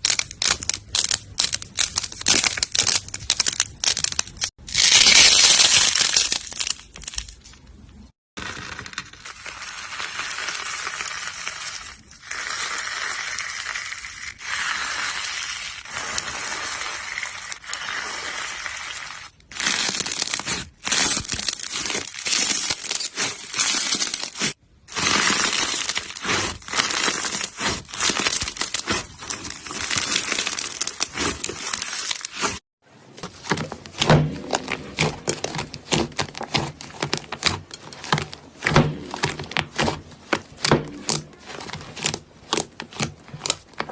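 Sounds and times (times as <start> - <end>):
slime crackling and popping: 0.0 - 7.4, 8.4 - 32.6, 33.2 - 43.9.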